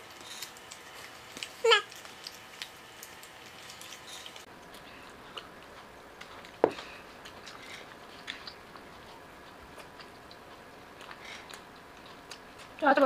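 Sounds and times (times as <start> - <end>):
soft chewing: 0.0 - 13.0
small clicks while eating: 0.1 - 13.0.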